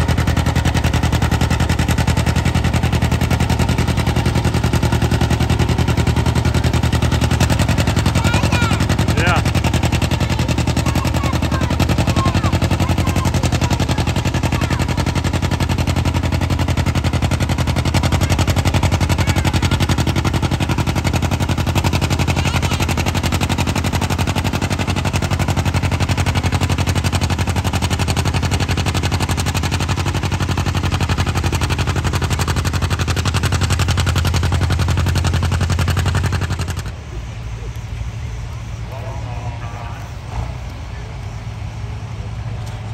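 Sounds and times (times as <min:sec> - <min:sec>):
exhaust popping: 0:00.0 - 0:42.9
tractor engine working under load: 0:00.0 - 0:42.9.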